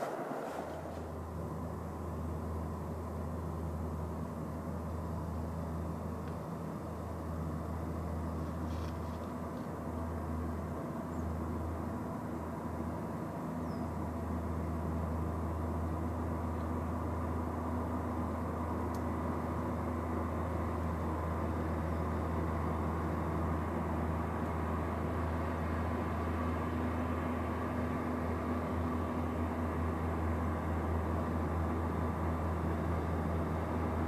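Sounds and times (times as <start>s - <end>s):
diesel train engine droning: 0.0s - 34.0s.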